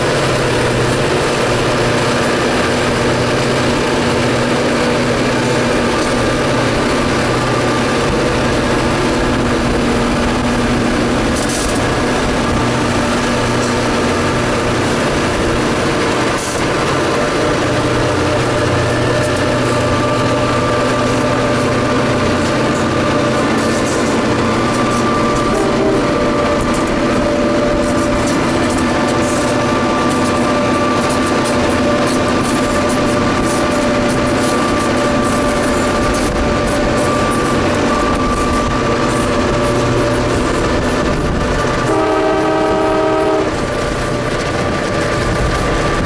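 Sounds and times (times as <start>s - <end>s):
road and wind noise: 0.0s - 41.9s, 43.4s - 46.0s
diesel locomotives droning: 0.0s - 46.0s.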